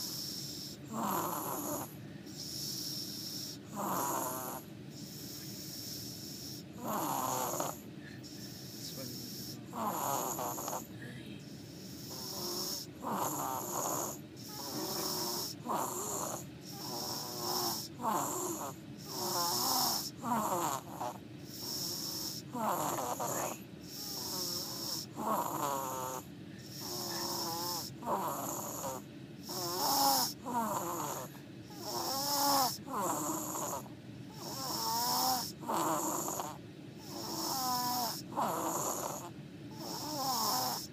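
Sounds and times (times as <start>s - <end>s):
person snoring: 0.0s - 10.9s, 11.8s - 40.9s.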